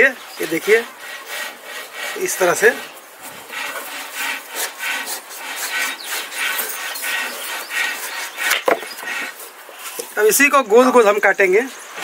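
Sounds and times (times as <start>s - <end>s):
knife sawing through gourd rind: 0.0s - 10.3s.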